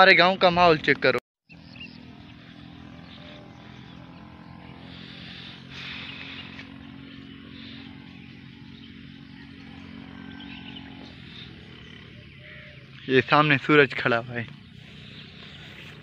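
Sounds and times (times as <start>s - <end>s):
faint outdoor field ambience: 0.0s - 16.0s
distant motor droning: 0.1s - 16.0s.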